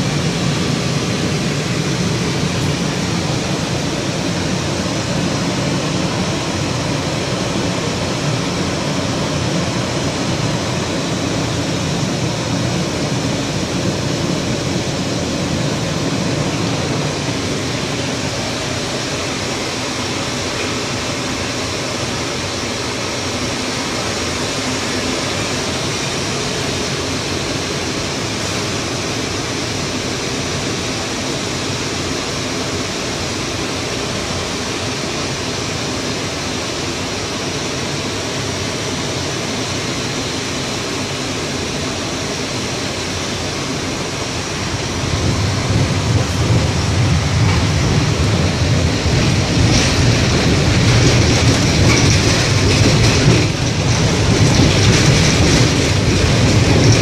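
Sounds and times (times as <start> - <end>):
traffic noise from inside tram: 0.0 - 57.0.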